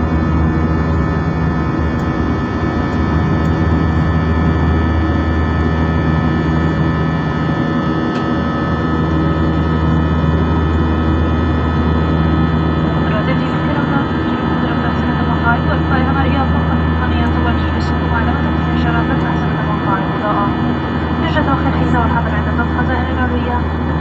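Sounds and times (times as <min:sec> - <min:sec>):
jet cabin engine drone: 0:00.0 - 0:24.0.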